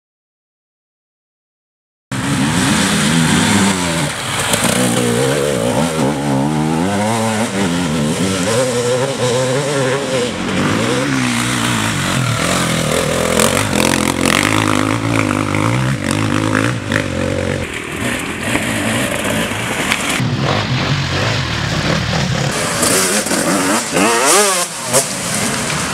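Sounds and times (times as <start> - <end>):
dirt bike engines revving: 2.1 - 25.9.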